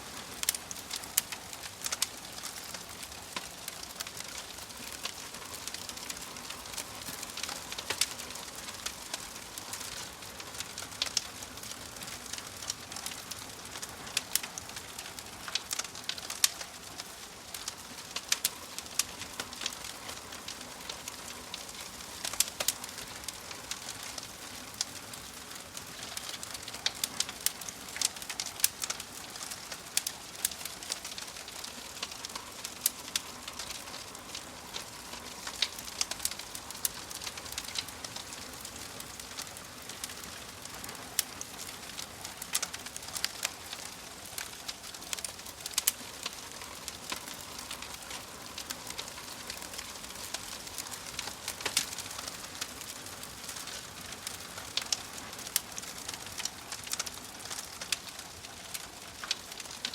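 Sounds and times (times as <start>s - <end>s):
fire crackling with pops: 0.0s - 59.9s.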